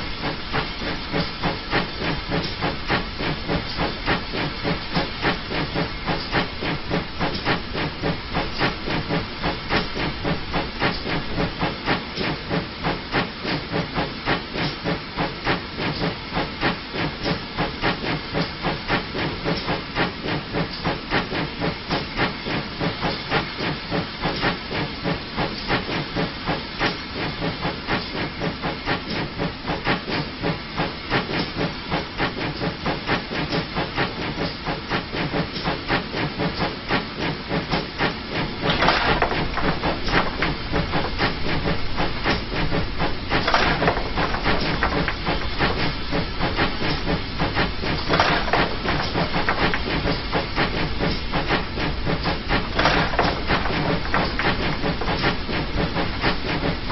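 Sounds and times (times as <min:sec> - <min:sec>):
steam hiss: 0:00.0 - 0:56.9
steam locomotive exhaust chuffs: 0:00.0 - 0:56.9.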